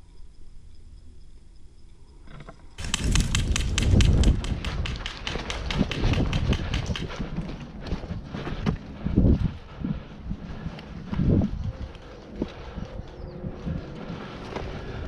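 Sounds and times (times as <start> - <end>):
running footsteps on dry grass: 2.8 - 15.0.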